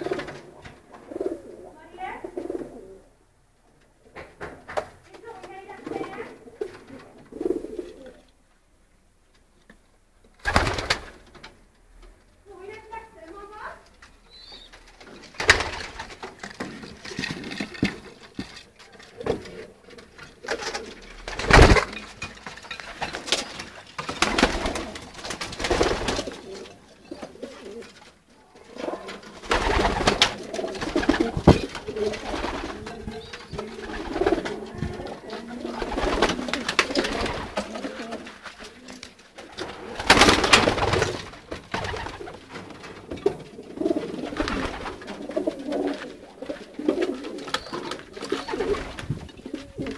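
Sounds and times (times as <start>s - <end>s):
pigeons cooing: 0.0s - 3.2s, 5.7s - 8.4s, 14.2s - 22.1s, 22.7s - 49.9s.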